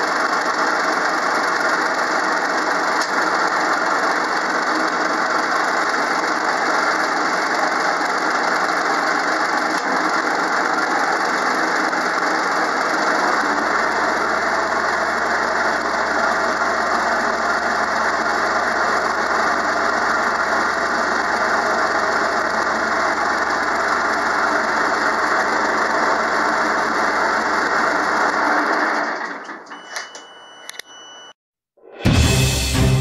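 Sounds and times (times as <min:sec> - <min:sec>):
diesel engine running: 0:00.0 - 0:29.4.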